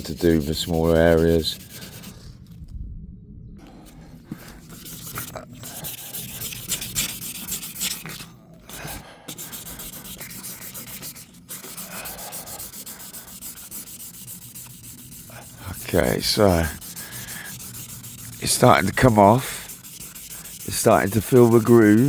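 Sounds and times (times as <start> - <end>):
hand wet-sanding car panel: 0.0 - 2.1, 4.8 - 22.0.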